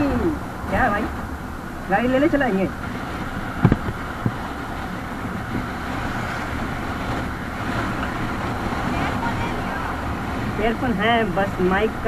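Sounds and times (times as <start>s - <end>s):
scooter engine running: 0.0s - 12.0s
wind and road noise: 0.0s - 12.0s.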